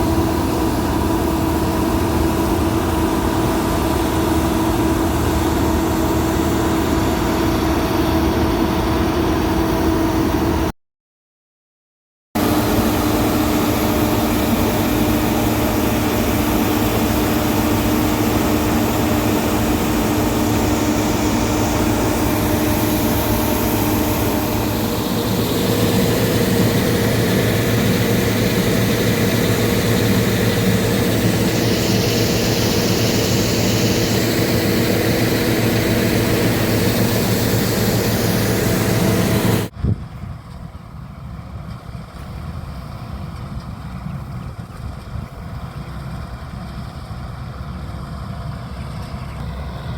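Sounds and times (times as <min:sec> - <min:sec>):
combine harvester droning: 0:00.0 - 0:10.7, 0:12.4 - 0:49.9.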